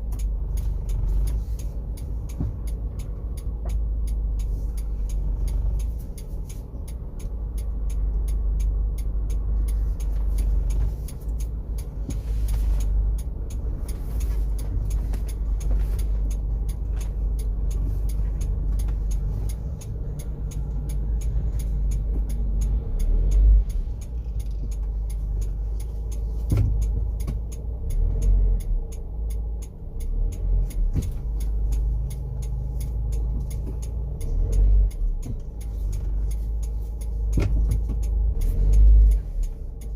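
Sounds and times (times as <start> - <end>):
car engine low hum: 0.0 - 39.9.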